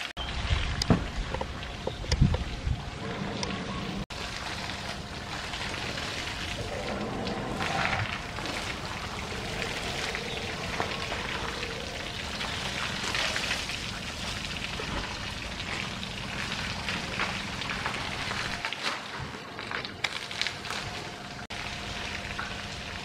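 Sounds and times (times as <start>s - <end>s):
hose water spraying and splashing: 4.1s - 23.0s.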